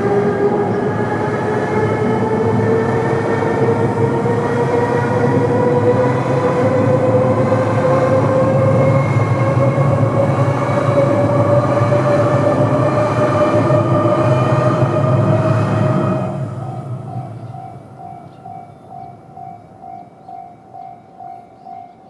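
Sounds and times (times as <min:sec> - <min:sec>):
train whine rising in pitch: 0:00.0 - 0:20.0
electric train passing: 0:00.0 - 0:22.0.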